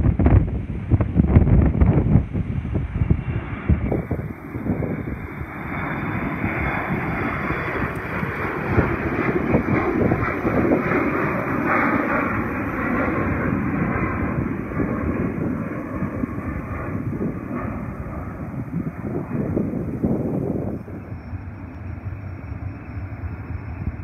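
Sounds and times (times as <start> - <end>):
jet engines at climb power: 0.0 - 24.0.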